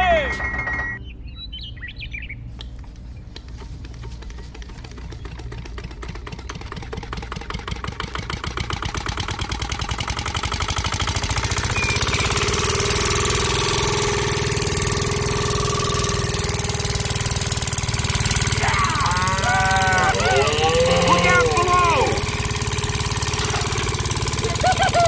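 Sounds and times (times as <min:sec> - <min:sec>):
diesel engine starting and chugging: 0:03.3 - 0:25.0.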